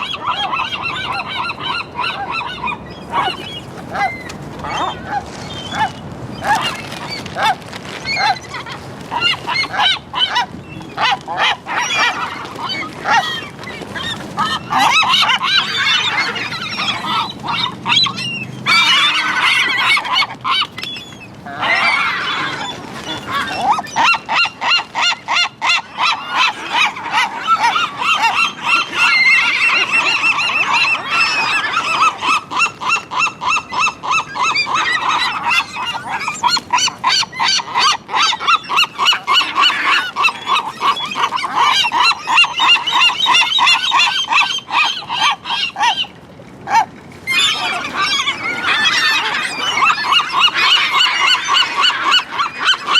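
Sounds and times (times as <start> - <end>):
seagulls calling: 0.0 - 52.9.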